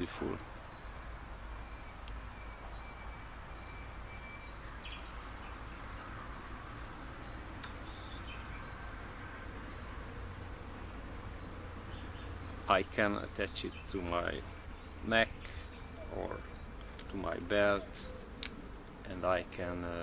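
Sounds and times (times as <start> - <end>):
cricket trilling: 0.0 - 20.0.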